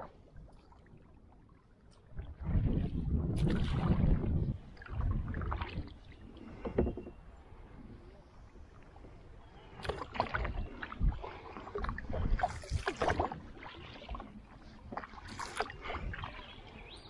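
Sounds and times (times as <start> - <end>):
paddle splashing water: 0.0 - 17.0.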